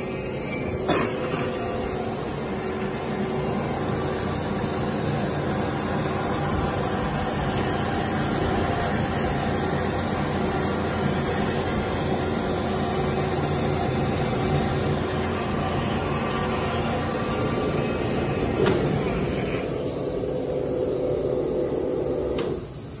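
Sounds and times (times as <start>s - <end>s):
belt sander drone: 0.0s - 23.0s.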